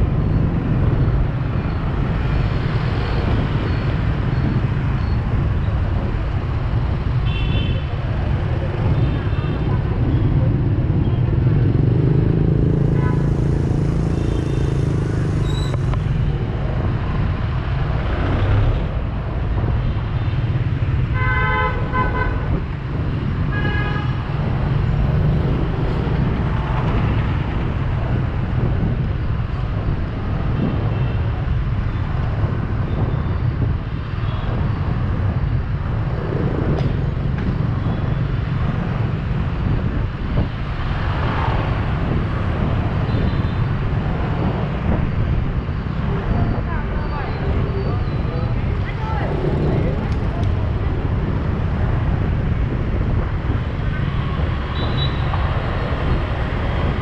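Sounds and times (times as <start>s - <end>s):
traffic engines and tyres rumbling: 0.0s - 57.0s.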